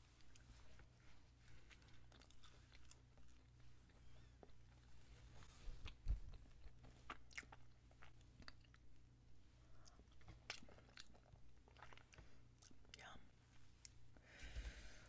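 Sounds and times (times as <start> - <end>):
chewing soft donut: 0.0 - 14.2.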